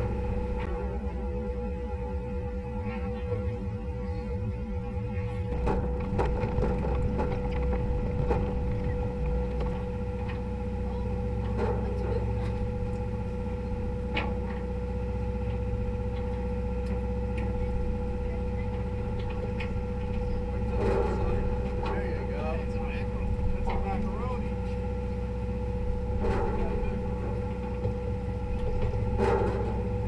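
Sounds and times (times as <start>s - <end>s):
boat engine hum: 0.0s - 30.0s
constant whining tone: 0.0s - 30.0s.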